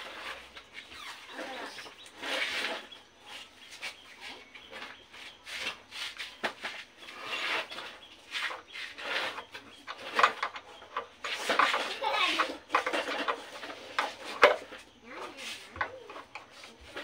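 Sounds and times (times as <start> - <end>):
parts rubbing and scraping: 0.0 - 17.0.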